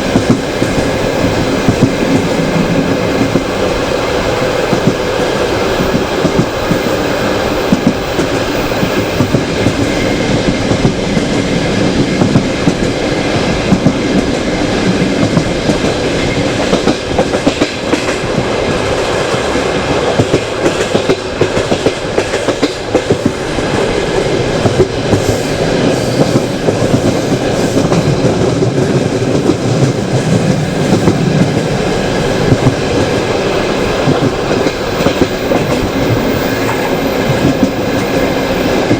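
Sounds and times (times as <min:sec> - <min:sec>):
train wheels rumbling on track: 0:00.0 - 0:38.9
wheels clickety-clack over rail joints: 0:00.0 - 0:38.9.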